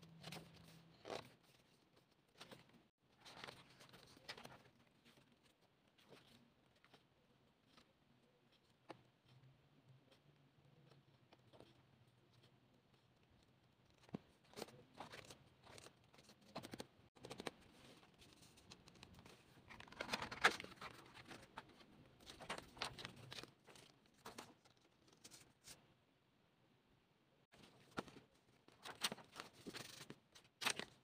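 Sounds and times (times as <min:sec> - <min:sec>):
paper and card rustling: 0:00.1 - 0:09.5, 0:10.9 - 0:25.8, 0:27.6 - 0:31.0.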